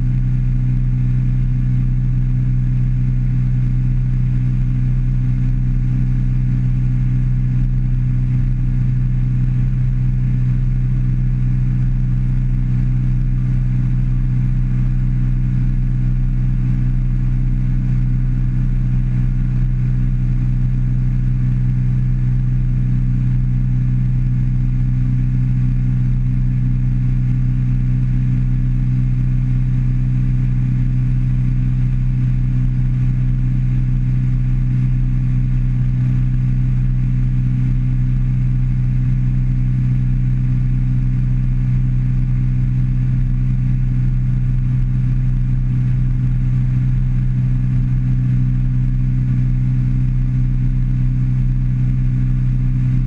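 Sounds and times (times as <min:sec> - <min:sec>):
outboard motor droning: 0:00.0 - 0:53.0.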